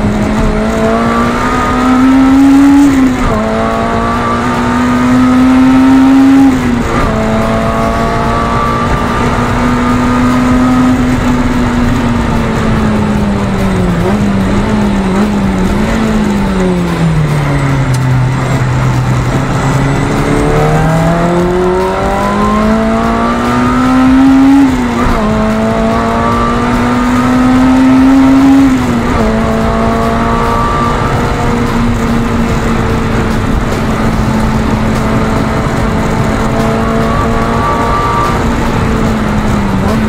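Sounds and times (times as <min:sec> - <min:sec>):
car engine revving through gears: 0:00.0 - 0:40.0.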